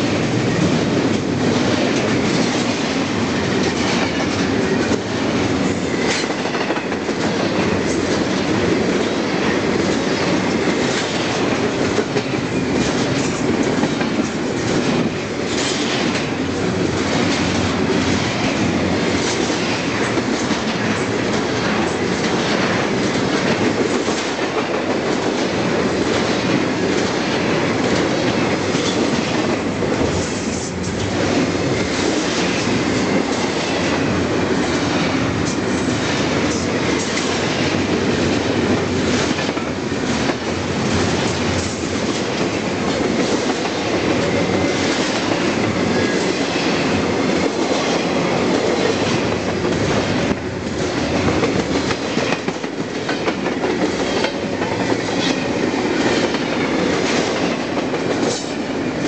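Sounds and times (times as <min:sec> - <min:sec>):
train trucks clacking: 0:00.0 - 0:59.0
train wheels rumbling on rail: 0:00.0 - 0:59.0.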